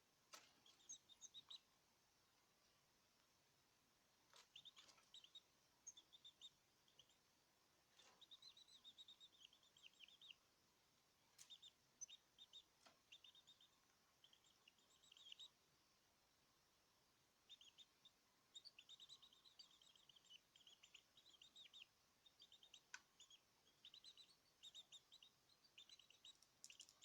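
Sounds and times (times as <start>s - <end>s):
small birds chirping: 0.0s - 3.2s, 4.1s - 27.0s.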